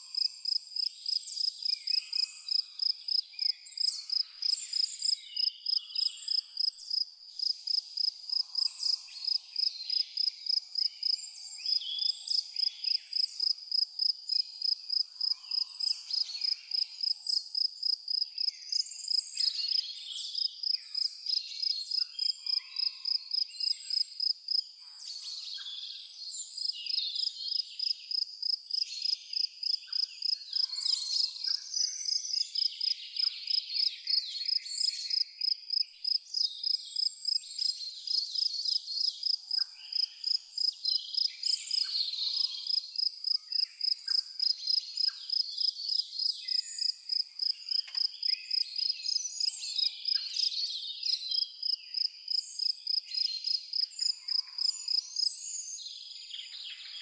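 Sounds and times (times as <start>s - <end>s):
cricket chirping: 0.0s - 19.8s, 20.4s - 25.4s, 26.6s - 56.9s
songbirds calling and chirping: 0.0s - 57.0s.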